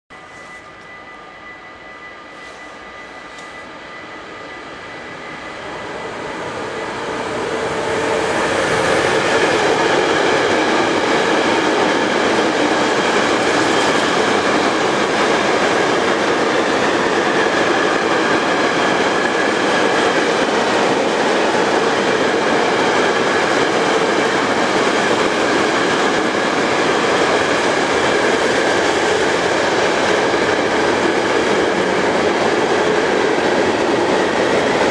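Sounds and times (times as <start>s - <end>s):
train wheels rumbling on rails: 0.1s - 34.9s.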